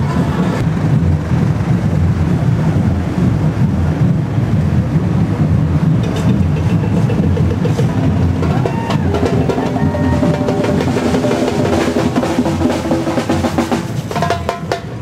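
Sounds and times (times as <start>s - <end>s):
parade music with loud drumming: 0.8s - 15.0s.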